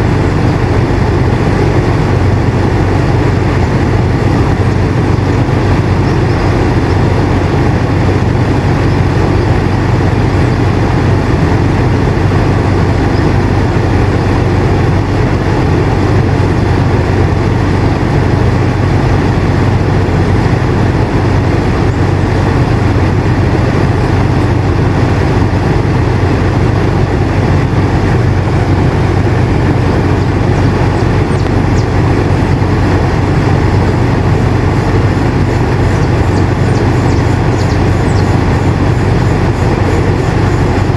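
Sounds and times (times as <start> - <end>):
air conditioner running: 0.0 - 40.9.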